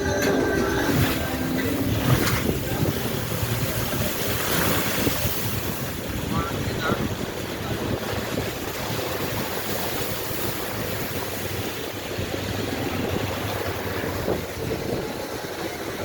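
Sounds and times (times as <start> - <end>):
low vehicle rumble: 0.0 - 16.0
wind noise on microphone: 0.0 - 16.0.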